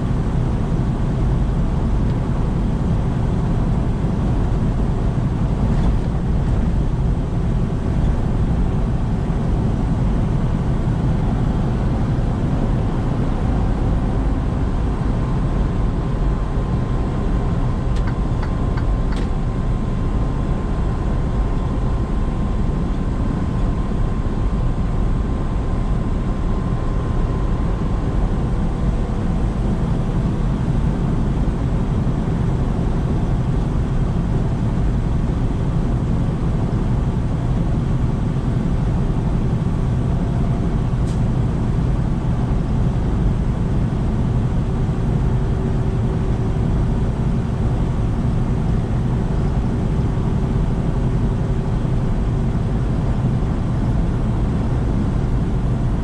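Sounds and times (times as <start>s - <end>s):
truck engine drone: 0.0s - 56.0s.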